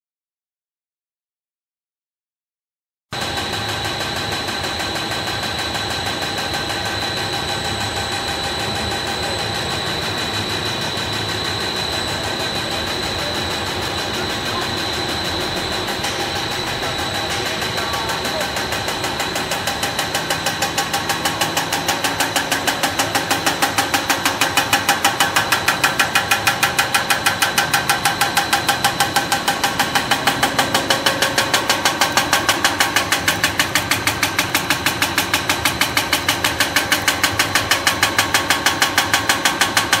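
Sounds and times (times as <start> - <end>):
machinery rapid clatter: 3.2 - 40.0.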